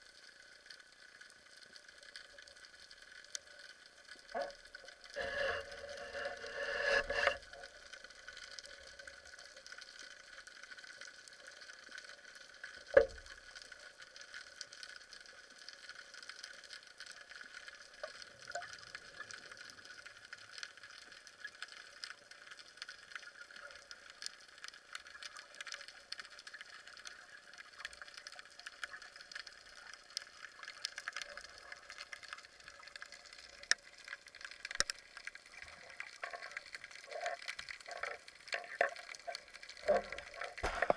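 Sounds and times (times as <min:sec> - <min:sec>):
underwater hiss with small clicks: 0:00.0 - 0:40.9.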